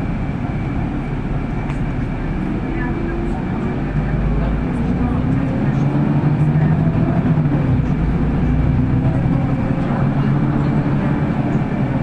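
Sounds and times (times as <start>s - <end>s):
bus engine drone: 0.0s - 12.0s
road and body rumble: 0.0s - 12.0s.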